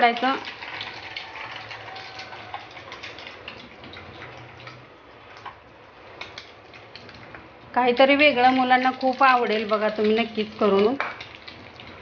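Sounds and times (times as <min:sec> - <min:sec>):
bread sizzling in hot oil: 0:00.0 - 0:04.8, 0:05.4 - 0:12.0.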